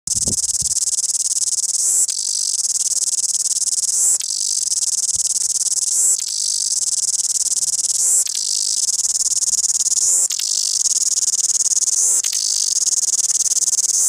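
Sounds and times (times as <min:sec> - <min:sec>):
cicada buzzing with clicks: 0:00.1 - 0:14.0.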